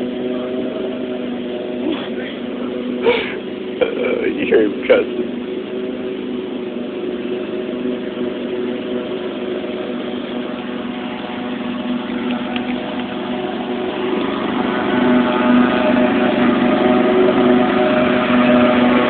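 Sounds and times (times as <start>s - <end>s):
riding lawn mower engine: 0.0s - 19.0s.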